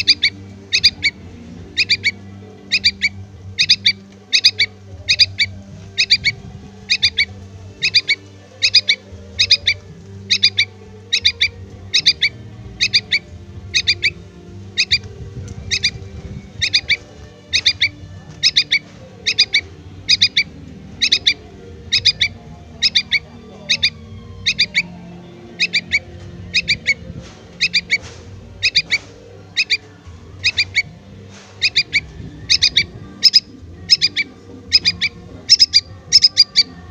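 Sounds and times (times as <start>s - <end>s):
bird chick chirping: 0.0s - 24.9s, 25.5s - 36.9s.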